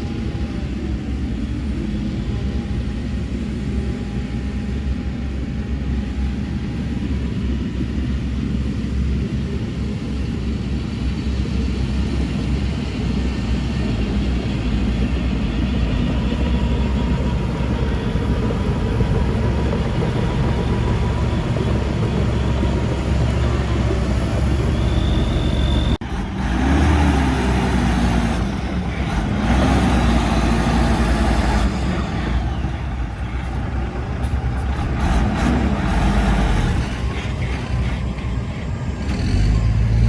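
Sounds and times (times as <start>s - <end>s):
diesel engines rumbling: 0.0s - 40.0s.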